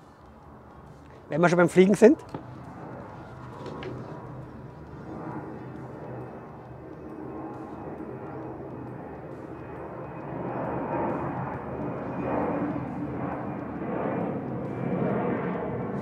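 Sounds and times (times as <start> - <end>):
airplane flying over: 0.0 - 16.0.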